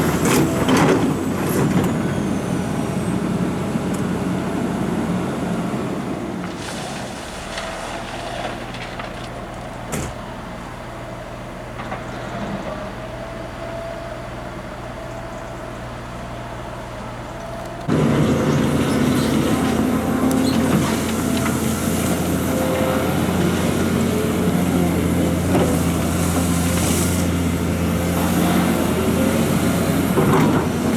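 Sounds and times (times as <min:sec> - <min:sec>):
heavy diesel engines running: 0:00.0 - 0:30.9.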